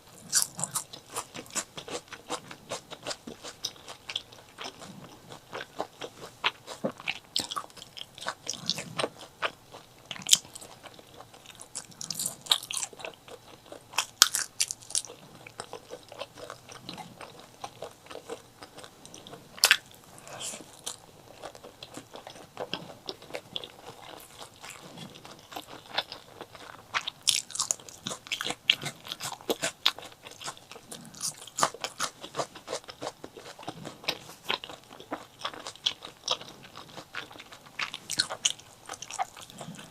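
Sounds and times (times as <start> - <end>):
crunchy bites and chewing: 0.1 - 39.9.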